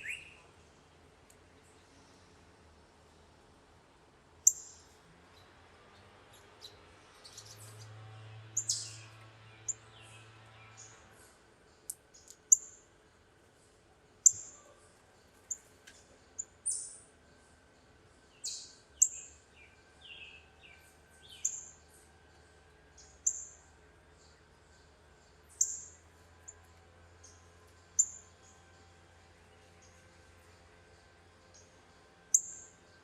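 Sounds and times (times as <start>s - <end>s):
songbirds chipping: 0.0s - 2.3s, 4.4s - 33.0s.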